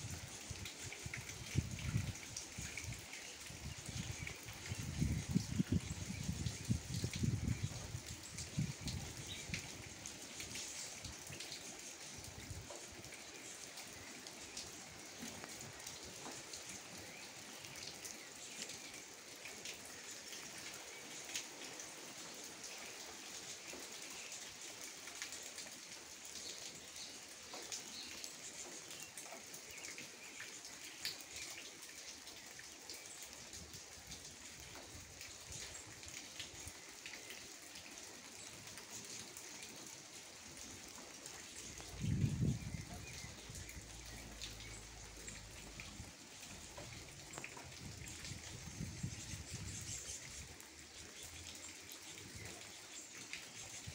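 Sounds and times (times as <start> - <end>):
gentle rain with drips: 0.0 - 53.9.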